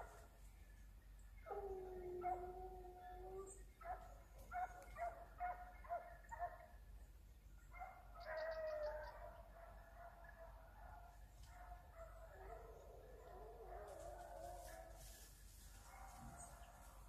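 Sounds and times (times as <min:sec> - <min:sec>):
hunting dogs baying faintly: 0:01.4 - 0:07.0, 0:07.6 - 0:17.0.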